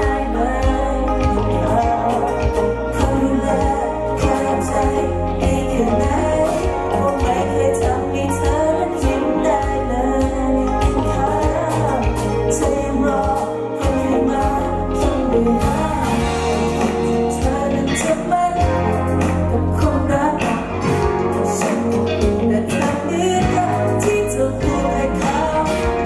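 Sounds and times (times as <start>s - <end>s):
electric guitar: 0.0s - 26.0s
live band playing: 0.0s - 26.0s
man singing pop song: 0.0s - 26.0s.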